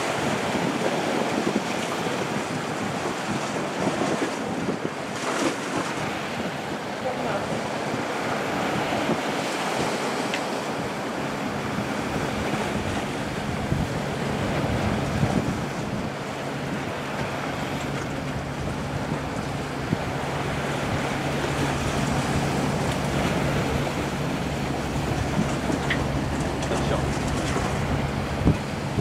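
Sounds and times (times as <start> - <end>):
waves breaking on rocks: 0.0 - 29.0
wind buffeting microphone: 0.0 - 29.0.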